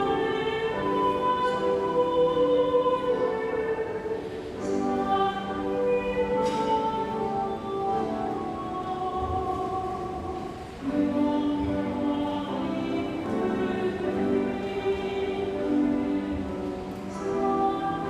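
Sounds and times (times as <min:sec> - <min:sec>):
hymn with singing voices: 0:00.0 - 0:18.0.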